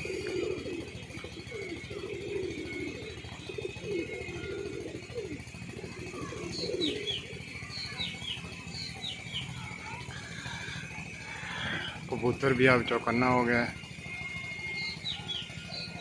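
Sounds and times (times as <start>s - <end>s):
small bird chirping: 0.0s - 12.8s, 13.6s - 16.0s
pigeons cooing: 0.0s - 16.0s.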